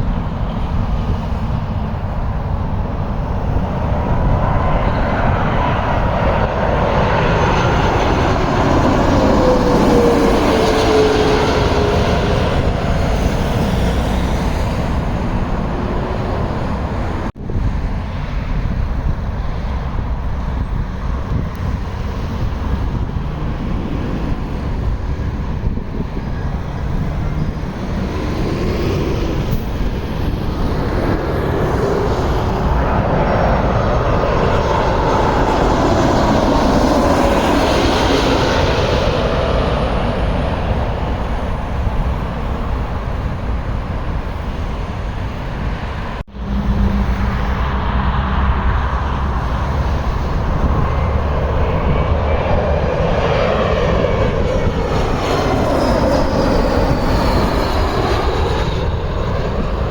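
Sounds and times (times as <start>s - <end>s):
jet airliner passing overhead: 0.0s - 59.9s.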